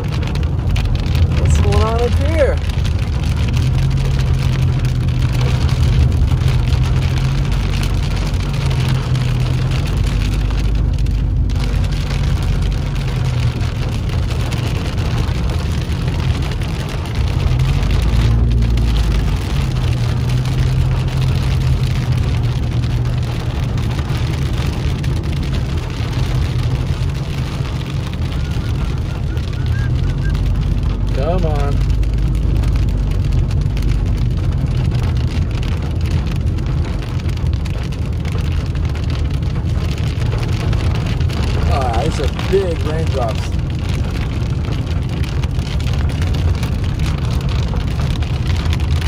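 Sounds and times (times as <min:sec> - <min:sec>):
car engine hum: 0:00.0 - 0:49.0
rain hitting windshield: 0:00.0 - 0:49.0
tyre noise on wet road: 0:00.0 - 0:49.0.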